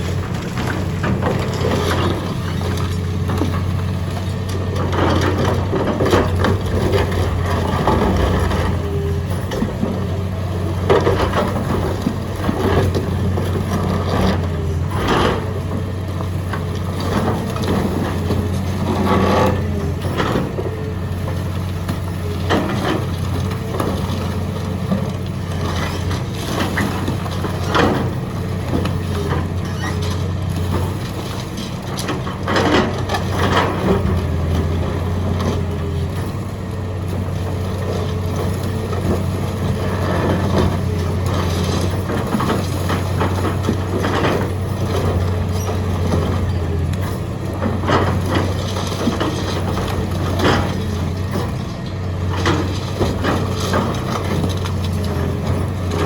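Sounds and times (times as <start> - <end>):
concrete cracking and crunching: 0.0 - 56.0
excavator engine running: 0.0 - 56.0.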